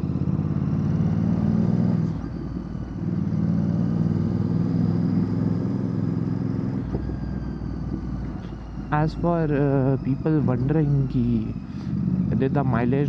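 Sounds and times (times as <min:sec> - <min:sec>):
motorcycle engine riding: 0:00.0 - 0:13.0.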